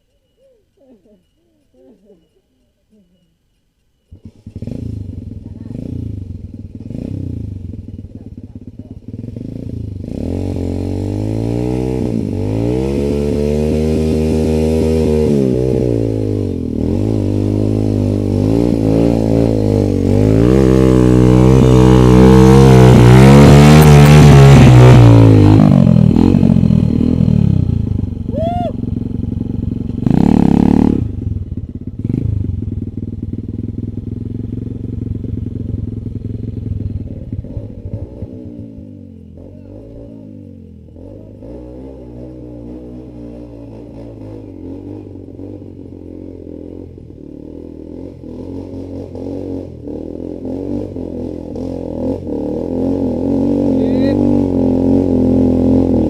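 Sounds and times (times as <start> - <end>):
dirt bike engines revving: 4.1 - 32.6, 34.2 - 56.0.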